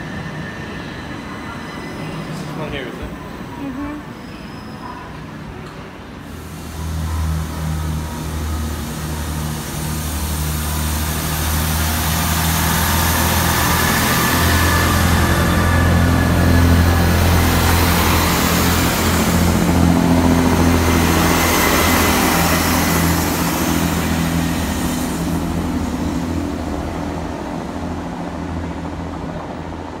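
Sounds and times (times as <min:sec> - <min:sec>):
train diesel engines humming: 0:00.0 - 0:30.0.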